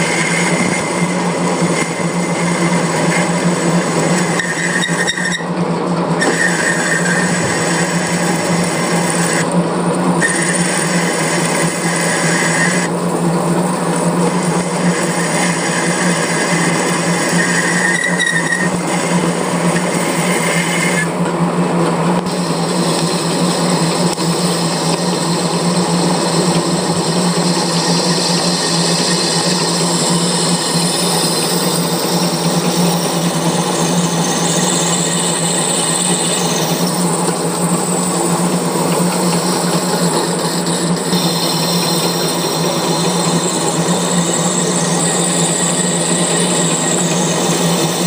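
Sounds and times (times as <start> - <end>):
cutting tool whine: 0.0 - 48.0
high-pitched squeal: 0.0 - 48.0
metal lathe humming: 0.0 - 48.0.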